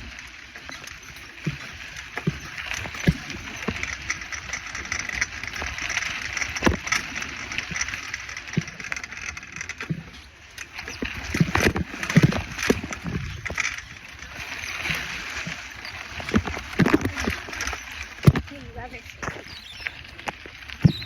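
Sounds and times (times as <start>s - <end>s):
bicycle knocks and rattles: 0.0s - 21.0s
bicycle tyre noise on rough road: 0.0s - 21.0s.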